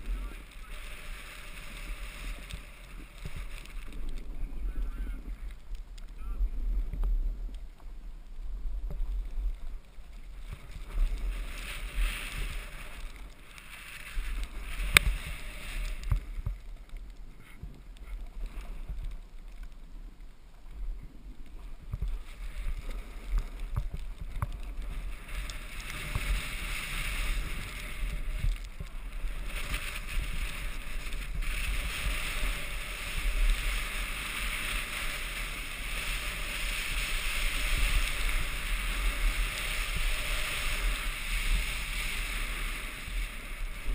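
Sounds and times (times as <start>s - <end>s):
skis sliding on snow: 0.0s - 43.9s.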